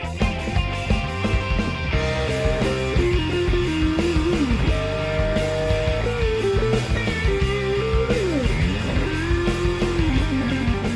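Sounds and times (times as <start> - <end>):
guitar-led background music: 0.0 - 10.9.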